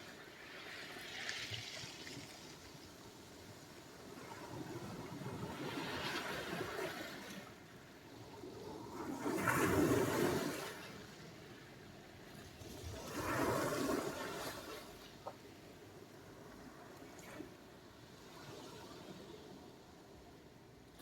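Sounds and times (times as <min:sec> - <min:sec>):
waves washing onto shore: 0:00.0 - 0:21.0.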